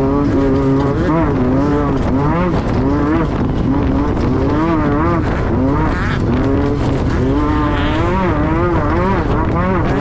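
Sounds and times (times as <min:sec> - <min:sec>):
race buggy engine revving: 0:00.0 - 0:10.0
steady rumble: 0:00.0 - 0:10.0.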